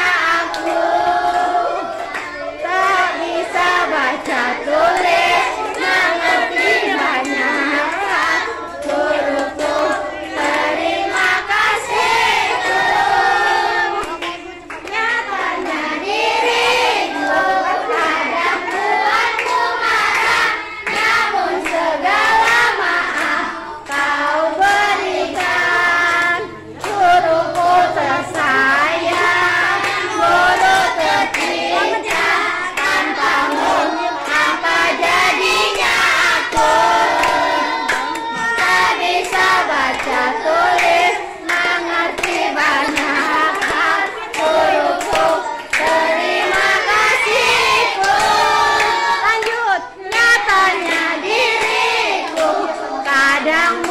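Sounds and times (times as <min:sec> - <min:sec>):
children singing: 0:00.0 - 0:53.9
hand claps: 0:00.4 - 0:03.0, 0:03.6 - 0:12.0, 0:14.0 - 0:15.8, 0:17.2 - 0:53.9.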